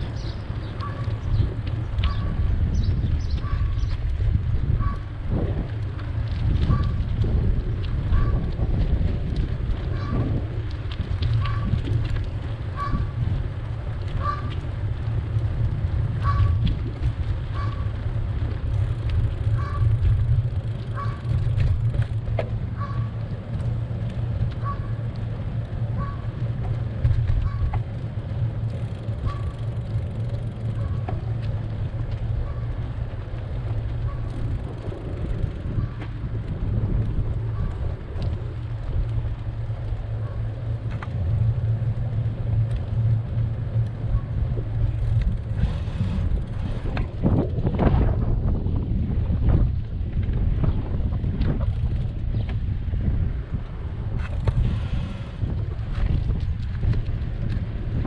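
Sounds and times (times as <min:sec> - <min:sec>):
light street noise: 0:00.0 - 0:58.0
wind rumbling on microphone: 0:00.0 - 0:58.0.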